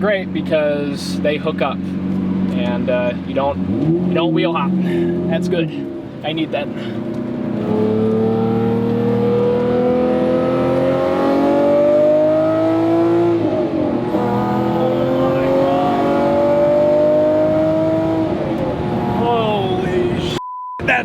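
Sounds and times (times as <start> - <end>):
sports car engine accelerating: 0.2 - 21.0.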